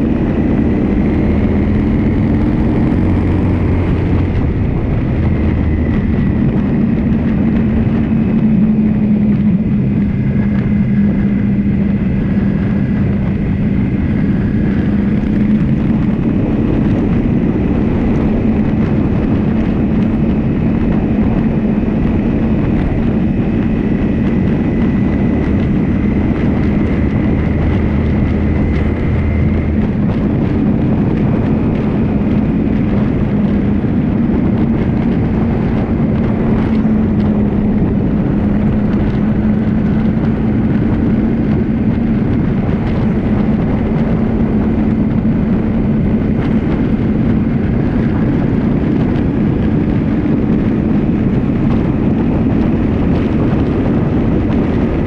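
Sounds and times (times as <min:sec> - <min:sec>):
road noise: 0:00.0 - 0:55.0
vehicle engine running: 0:00.0 - 0:55.0
wind noise on microphone: 0:00.0 - 0:55.0.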